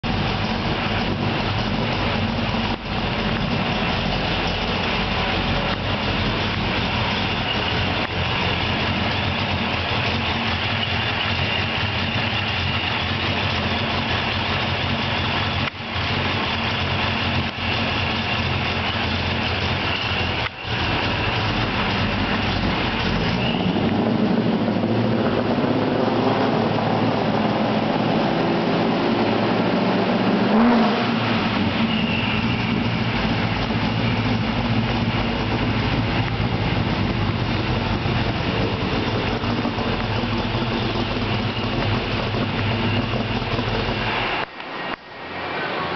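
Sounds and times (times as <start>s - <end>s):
car engine idling: 0.0s - 45.5s.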